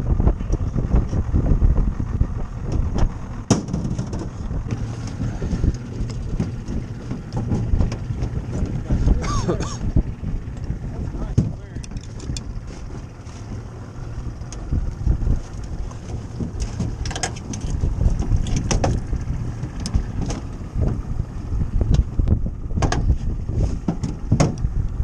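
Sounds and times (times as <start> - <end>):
knocks and clatters on boat: 0.0 - 25.0
wind buffeting microphone: 0.0 - 25.0.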